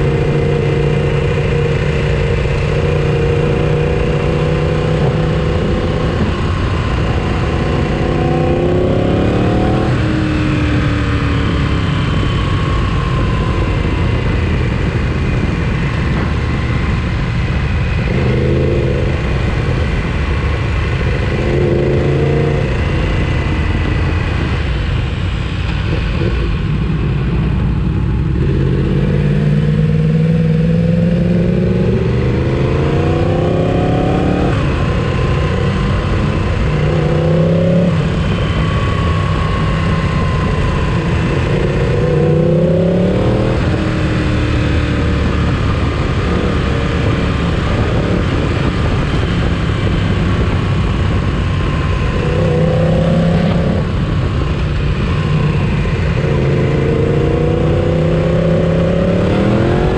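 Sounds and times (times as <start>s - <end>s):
motorcycle engine accelerating: 0.0s - 59.9s
steady rushing noise: 0.0s - 59.9s.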